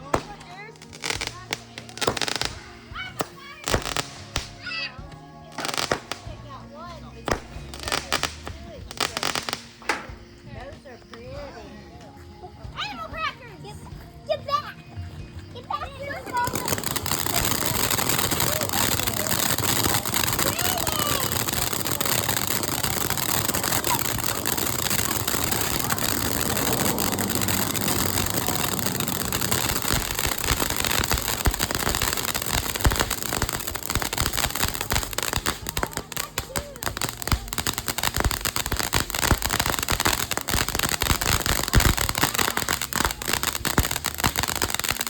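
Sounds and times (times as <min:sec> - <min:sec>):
fireworks hissing spray: 0:00.0 - 0:04.6, 0:05.5 - 0:06.5, 0:07.2 - 0:10.4, 0:16.2 - 0:45.0
fireworks crackling and popping: 0:00.0 - 0:11.6, 0:15.8 - 0:45.0.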